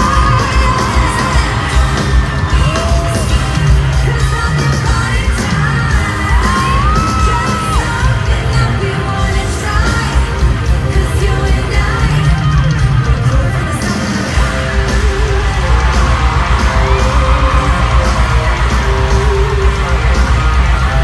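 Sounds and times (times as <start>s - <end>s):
fans yelling: 0.0s - 10.6s, 11.4s - 21.0s
woman singing: 0.0s - 20.4s
drums: 0.0s - 21.0s
electric guitar: 0.0s - 21.0s
heavy bass: 0.0s - 21.0s.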